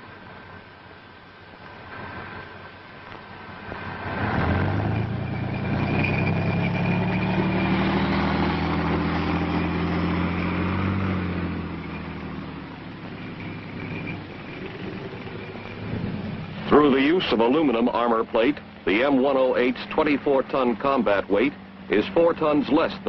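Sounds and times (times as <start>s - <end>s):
tracked vehicle diesel engine: 0.0s - 23.0s.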